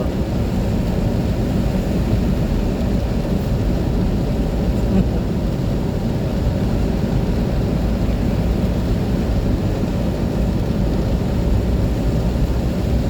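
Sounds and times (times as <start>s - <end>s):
car driving on wet road: 0.0s - 13.0s.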